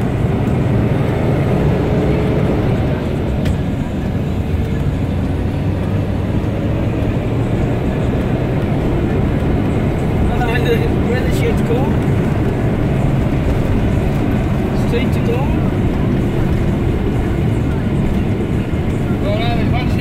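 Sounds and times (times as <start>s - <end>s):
engine drone: 0.0s - 20.0s
tyre and road rumble: 0.0s - 20.0s.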